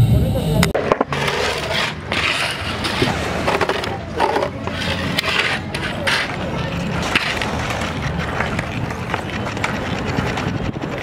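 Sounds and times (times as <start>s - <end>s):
skateboard wheels rolling on pavement: 0.8s - 11.0s.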